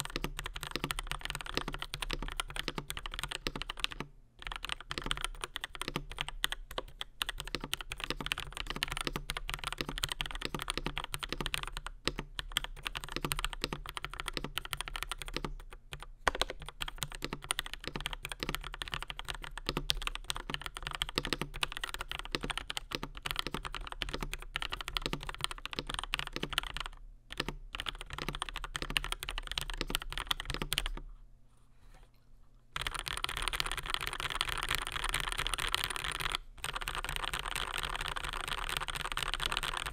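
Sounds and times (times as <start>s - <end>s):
mechanical keyboard typing: 0.0s - 31.0s, 32.8s - 39.9s.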